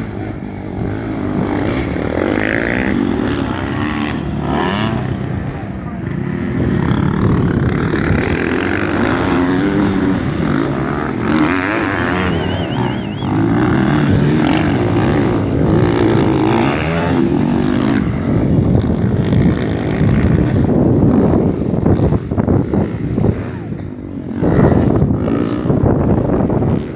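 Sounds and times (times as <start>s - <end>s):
motorcycle engines revving: 0.0s - 26.9s.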